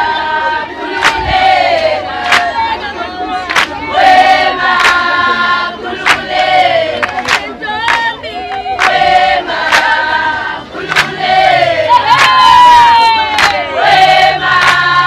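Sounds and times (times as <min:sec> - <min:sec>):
group of women singing and chanting: 0:00.0 - 0:15.0.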